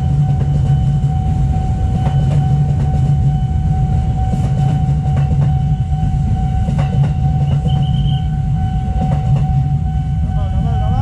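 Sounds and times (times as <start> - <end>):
electric train rumbling past: 0.0 - 11.0
steady high tone: 0.0 - 11.0.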